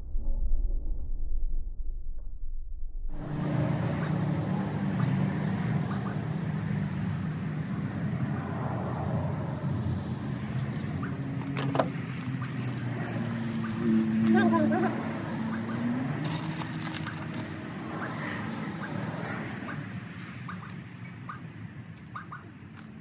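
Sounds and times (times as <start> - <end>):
engine running: 3.0 - 23.0.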